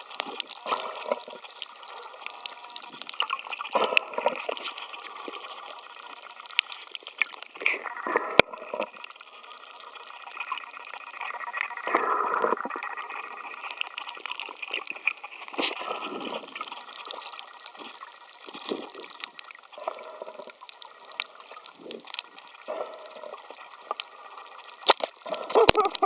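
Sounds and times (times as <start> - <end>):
water gurgling underwater: 0.0 - 26.0.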